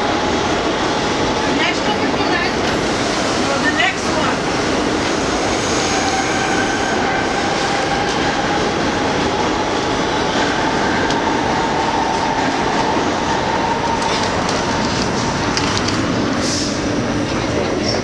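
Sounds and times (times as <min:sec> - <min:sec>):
subway car rumbling on track: 0:00.0 - 0:18.0.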